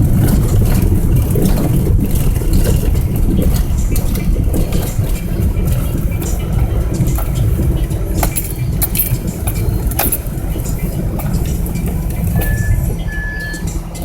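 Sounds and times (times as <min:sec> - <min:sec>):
car road and engine rumble: 0:00.0 - 0:14.0
loose items rattling: 0:00.0 - 0:14.0.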